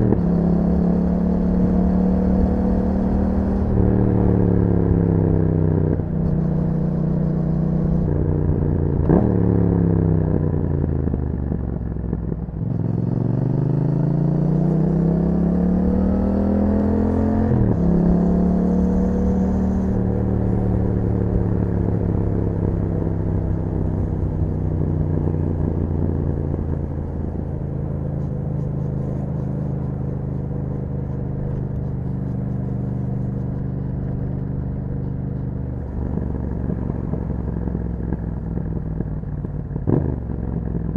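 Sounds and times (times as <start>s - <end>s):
motorcycle engine revving: 0.0s - 11.0s, 12.7s - 40.9s.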